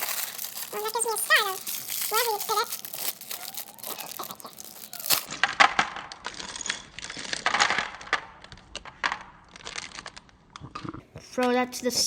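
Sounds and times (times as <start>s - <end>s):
plastic packaging crinkling: 0.0s - 8.8s, 9.5s - 10.4s
plastic pieces clicking: 0.0s - 10.4s.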